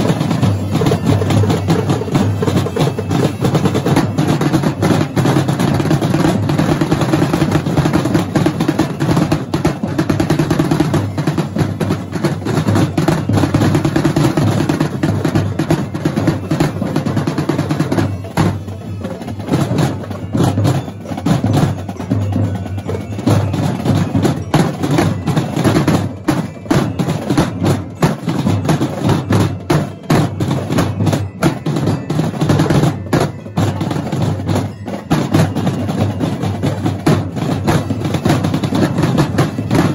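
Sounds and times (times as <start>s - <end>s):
drumline playing snare drums: 0.0s - 39.9s.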